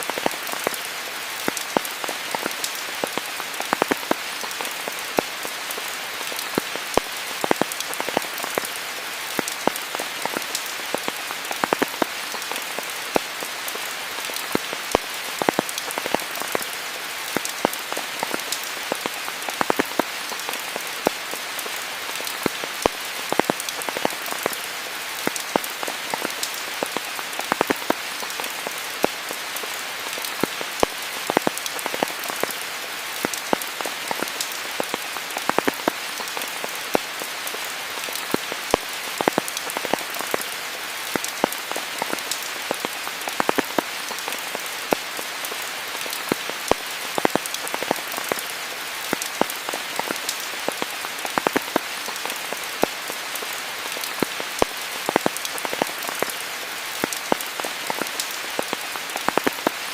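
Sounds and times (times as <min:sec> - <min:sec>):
rain hiss: 0:00.0 - 0:59.9
raindrops ticking: 0:00.0 - 0:59.9.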